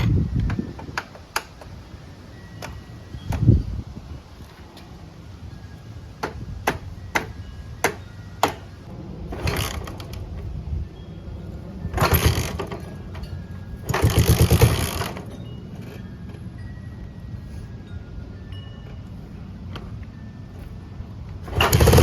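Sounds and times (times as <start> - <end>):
motorcycle engine cranking: 0.0 - 16.4, 19.7 - 22.0.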